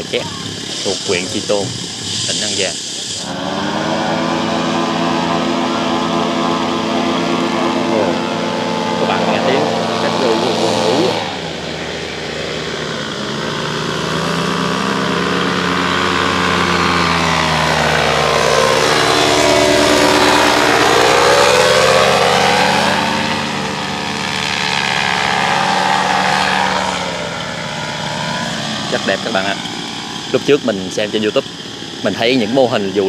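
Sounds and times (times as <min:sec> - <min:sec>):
propeller engine droning overhead: 0:00.0 - 0:33.0.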